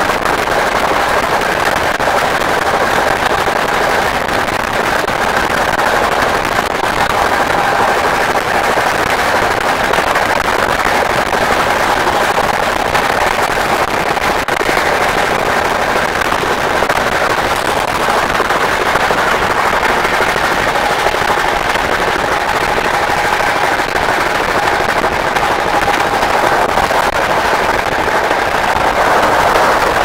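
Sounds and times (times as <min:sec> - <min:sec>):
faint steady whine: 0:00.0 - 0:30.0
train rattling on track: 0:00.0 - 0:30.0.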